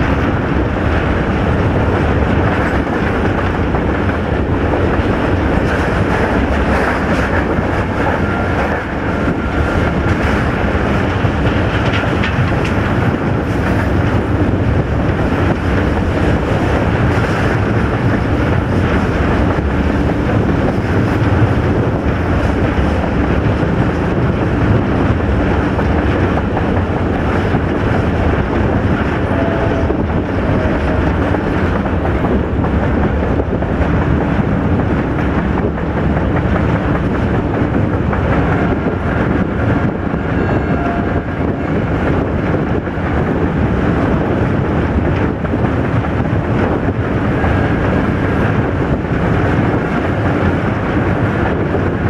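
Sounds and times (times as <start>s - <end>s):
train rumbling on track: 0.0s - 52.0s
wind buffeting microphone: 0.0s - 52.0s.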